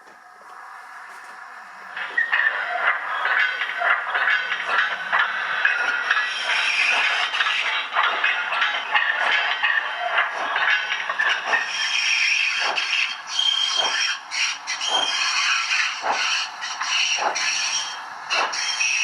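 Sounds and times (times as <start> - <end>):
model steam locomotive chuffing: 1.5 - 19.0.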